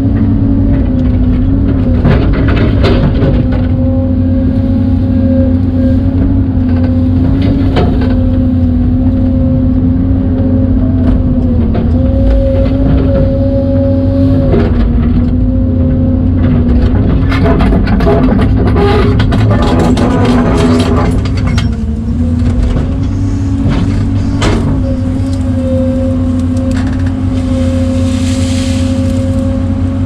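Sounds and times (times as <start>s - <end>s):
excavator engine drone: 0.0s - 30.0s.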